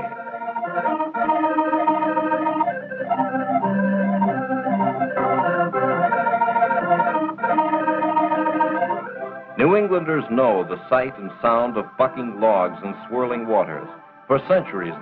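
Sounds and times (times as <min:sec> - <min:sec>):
organ playing film music: 0:00.0 - 0:15.0.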